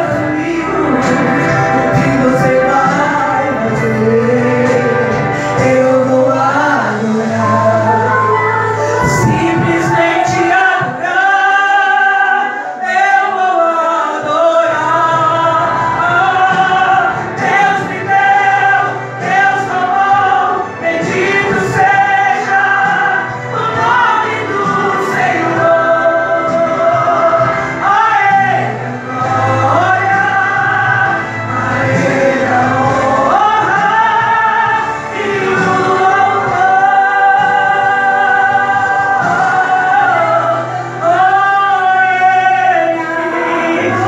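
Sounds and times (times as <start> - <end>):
musical accompaniment: 0.0 - 44.0
woman singing gospel: 0.0 - 44.0.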